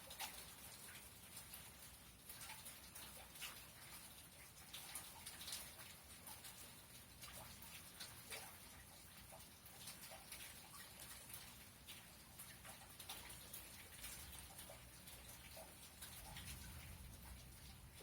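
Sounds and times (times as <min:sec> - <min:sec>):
raindrops ticking: 0:00.0 - 0:18.0
soft rain hiss: 0:00.0 - 0:18.0.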